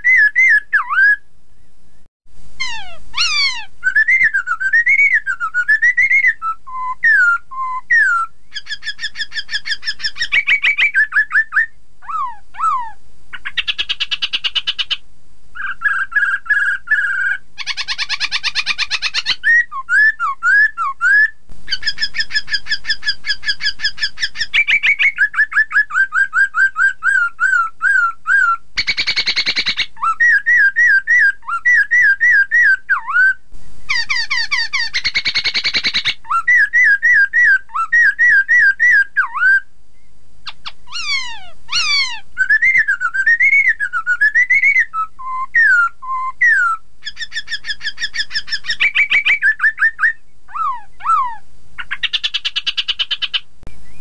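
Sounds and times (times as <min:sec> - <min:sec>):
bird singing whistled notes: 0:00.0 - 0:02.0, 0:02.6 - 0:15.0, 0:15.6 - 0:54.0
harsh buzzy bird calls: 0:02.6 - 0:15.0, 0:15.6 - 0:54.0.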